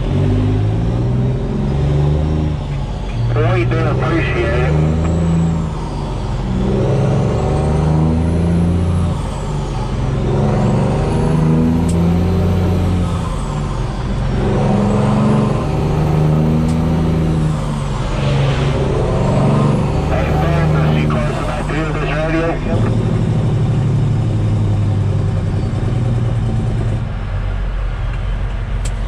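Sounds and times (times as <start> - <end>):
diesel truck engine accelerating: 0.0 - 29.0.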